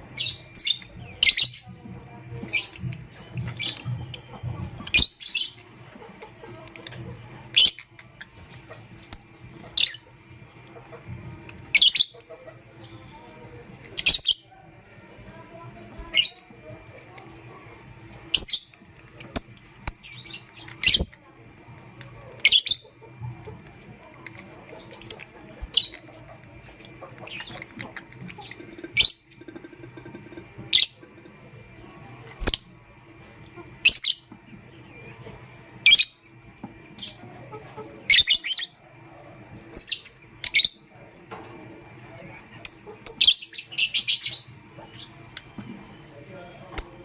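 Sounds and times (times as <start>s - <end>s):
faint steady hum: 0.0s - 47.0s
lovebirds chirping: 0.0s - 47.0s.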